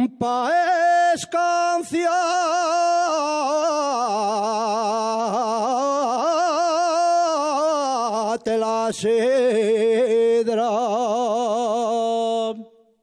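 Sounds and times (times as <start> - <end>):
man singing unaccompanied: 0.0 - 12.9.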